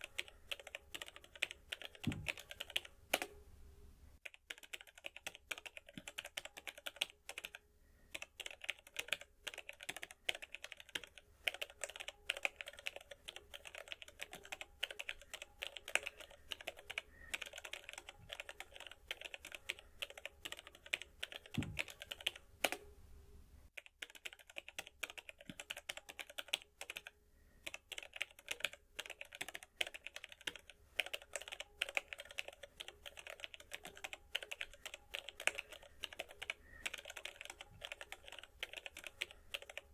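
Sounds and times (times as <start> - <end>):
keyboard typing: 0.0 - 3.4, 4.2 - 22.9, 23.8 - 39.9.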